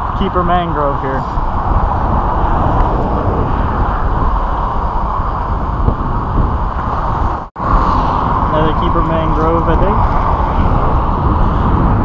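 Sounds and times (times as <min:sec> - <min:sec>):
highway traffic noise: 0:00.0 - 0:12.0
wind rushing on microphone: 0:00.0 - 0:12.0.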